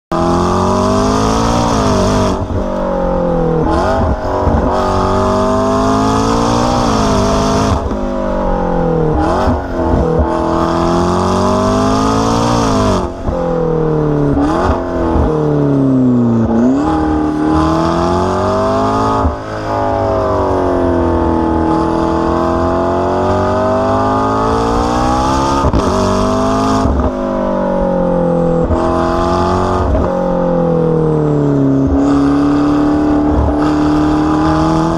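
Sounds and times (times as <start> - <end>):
sports car engine revving: 0.1 - 34.9.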